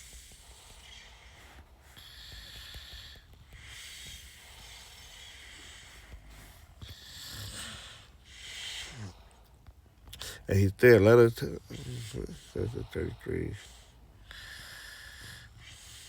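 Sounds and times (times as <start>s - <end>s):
soft breathing: 0.0s - 16.0s.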